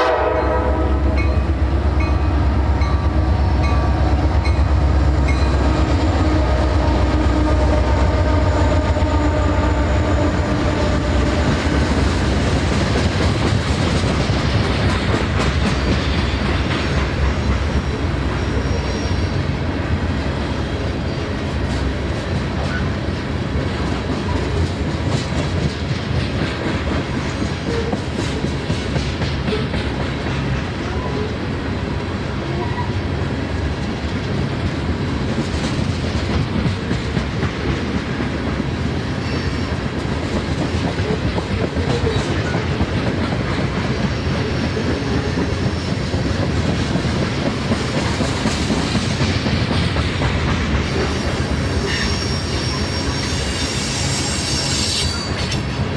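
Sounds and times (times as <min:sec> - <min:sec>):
freight train wheels rumbling on rails: 0:00.0 - 0:55.9.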